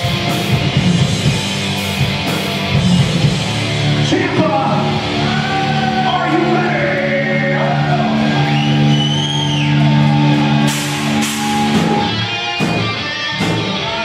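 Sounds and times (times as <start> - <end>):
distorted electric guitars and bass: 0.0 - 14.0.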